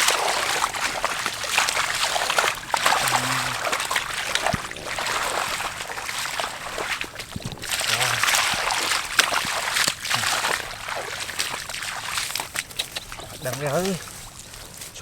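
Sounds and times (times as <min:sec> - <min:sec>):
shallow water splashing: 0:00.0 - 0:15.0.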